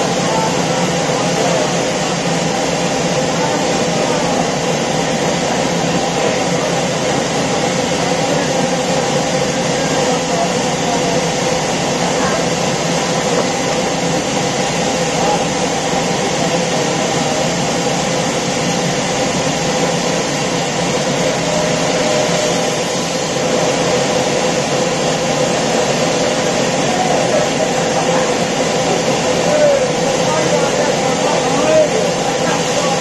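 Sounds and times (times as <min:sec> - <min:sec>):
band saw running with whine: 0:00.0 - 0:33.0.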